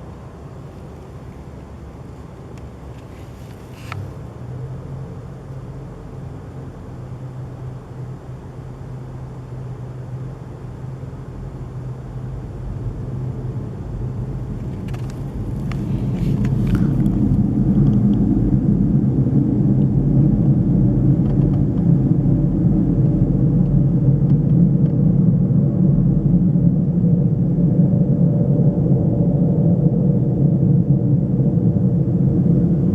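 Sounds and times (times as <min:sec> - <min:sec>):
low droning rumble: 0:00.0 - 0:32.9.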